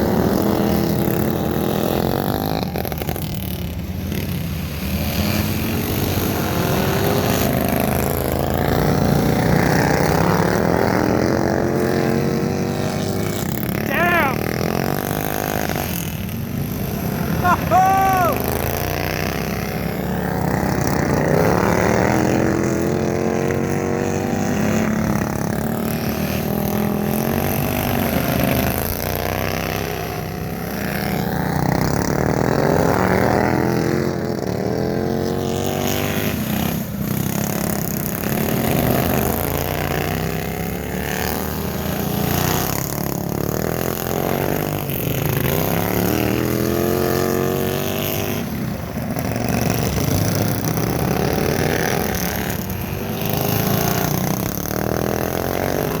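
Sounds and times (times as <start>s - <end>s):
small racing engines revving: 0.0s - 56.0s.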